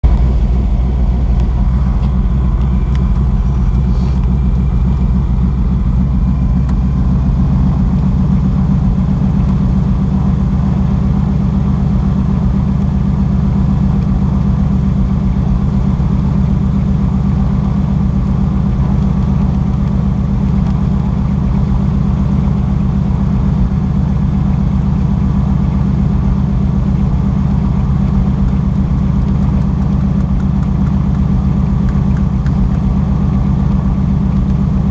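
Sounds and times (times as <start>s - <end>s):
plane engine and propeller: 0.0s - 34.9s.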